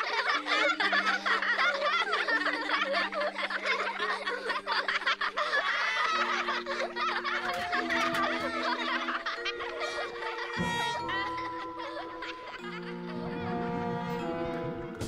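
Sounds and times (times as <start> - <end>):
children laughing: 0.0 - 15.0.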